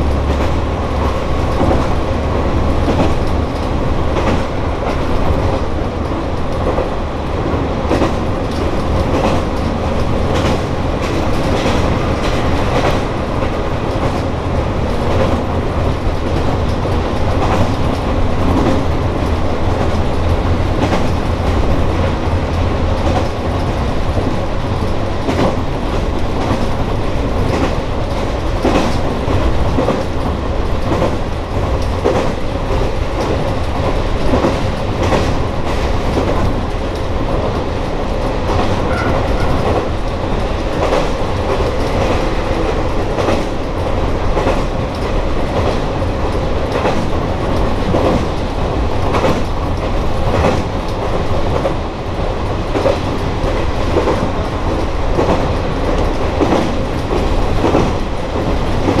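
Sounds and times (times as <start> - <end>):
diesel railcar engine running: 0.0 - 59.0
wheels clicking over rail joints: 0.0 - 59.0.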